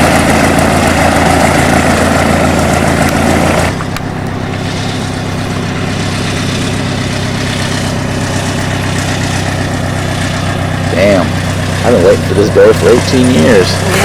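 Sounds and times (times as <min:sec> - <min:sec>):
bright noise over engine: 0:00.0 - 0:14.0
engine idling: 0:00.0 - 0:14.0.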